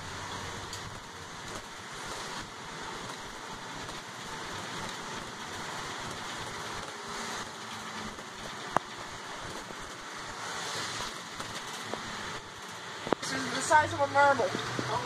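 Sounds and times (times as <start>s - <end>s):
bus running noise: 0.0s - 15.0s
rain on windshield: 0.0s - 15.0s
tyre spray on wet road: 0.0s - 15.0s.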